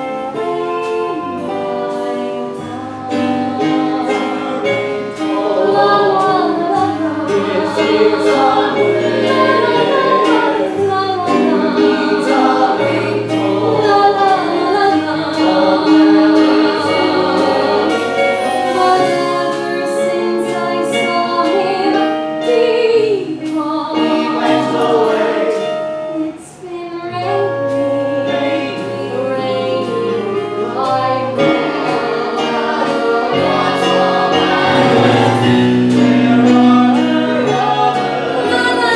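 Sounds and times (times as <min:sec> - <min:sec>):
group of voices singing: 0:00.0 - 0:38.9
theatre band with drum kit: 0:00.0 - 0:38.9.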